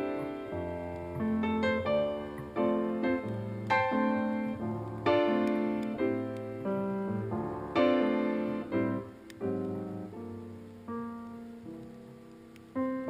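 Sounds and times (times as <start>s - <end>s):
piano chords ringing: 0.0s - 13.0s.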